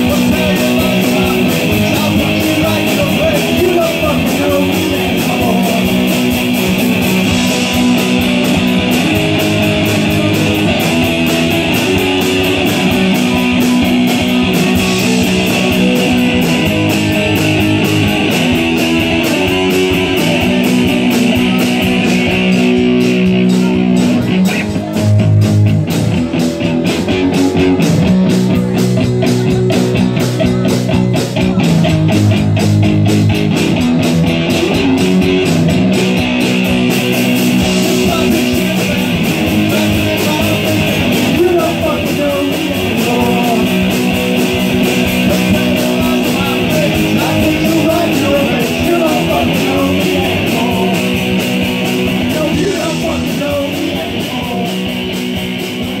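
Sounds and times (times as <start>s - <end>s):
drums: 0.0s - 56.0s
electric guitars: 0.0s - 56.0s.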